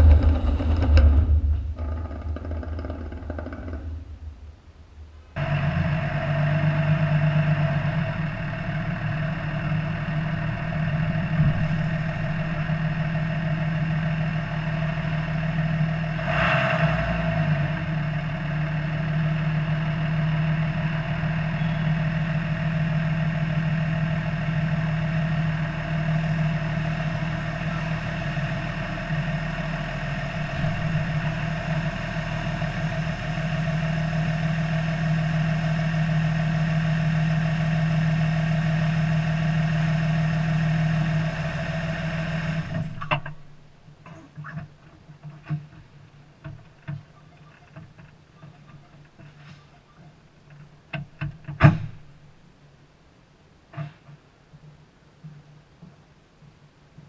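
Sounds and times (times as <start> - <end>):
car engine running at low revs: 0.0 - 52.6.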